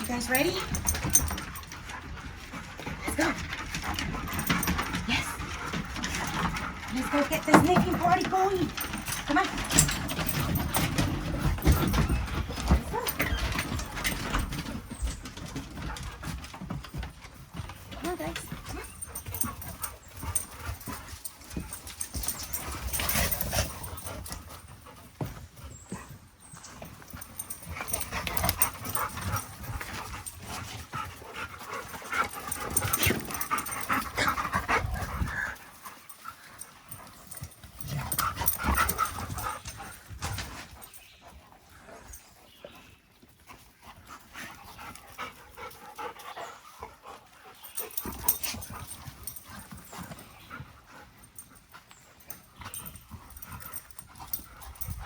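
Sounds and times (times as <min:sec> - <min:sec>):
dogs panting and sniffing: 0:00.0 - 0:55.0.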